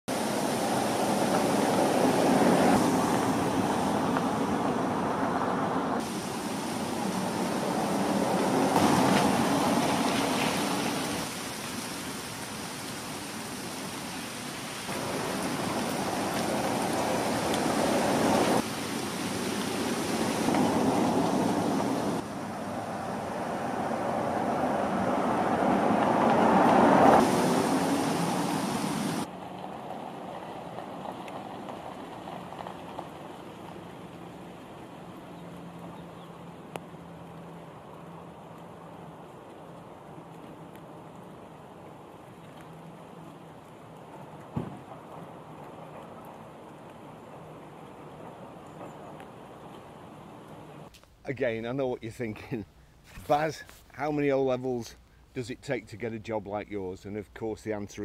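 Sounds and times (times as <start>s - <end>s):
car passing on wet road: 0.1s - 50.9s.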